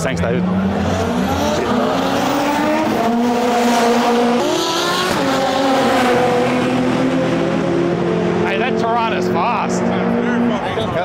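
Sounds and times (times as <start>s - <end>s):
race car engines accelerating: 0.0s - 11.0s.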